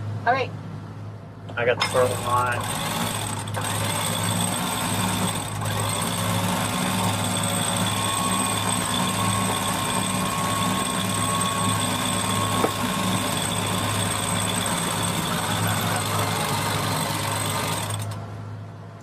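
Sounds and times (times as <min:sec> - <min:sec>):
diesel engines idling: 0:01.4 - 0:19.0
electric winch whining: 0:01.8 - 0:18.2.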